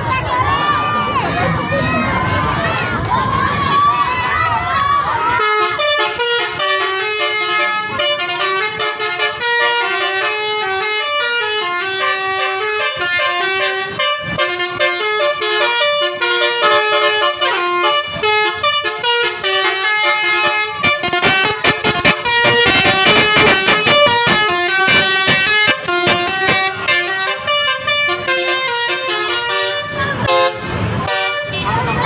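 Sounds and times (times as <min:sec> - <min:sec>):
musical air horns playing a tune: 0:05.4 - 0:31.8.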